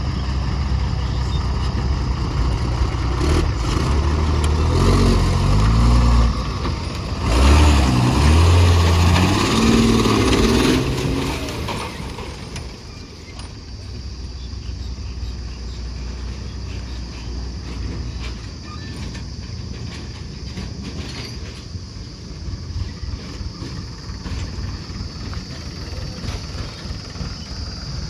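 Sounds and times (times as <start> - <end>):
heavy vehicle engine rumble: 0.0 - 28.0
insects chirring: 0.0 - 28.0.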